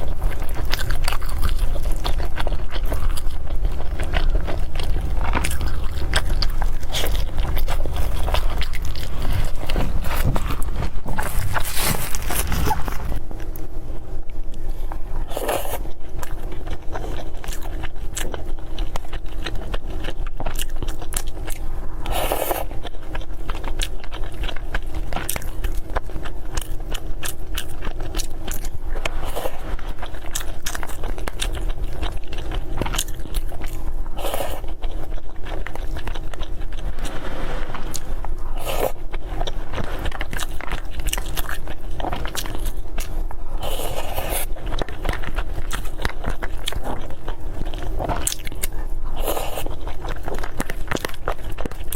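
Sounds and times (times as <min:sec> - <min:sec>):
low hum: 0:00.0 - 0:51.9
person chewing food: 0:00.0 - 0:51.9.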